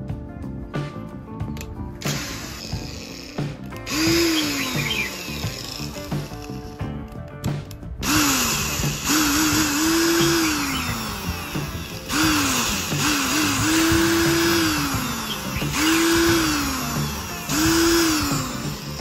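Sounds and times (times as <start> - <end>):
background music: 0.0 - 19.0
electric power tool motor: 2.0 - 6.8, 8.0 - 19.0.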